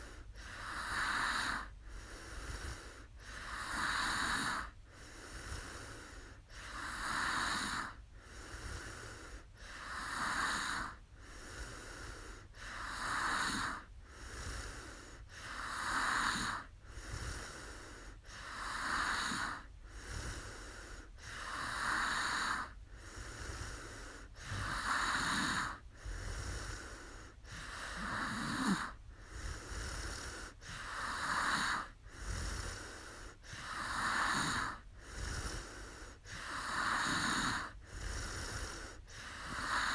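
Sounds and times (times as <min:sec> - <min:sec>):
woman snoring: 0:00.0 - 0:39.9.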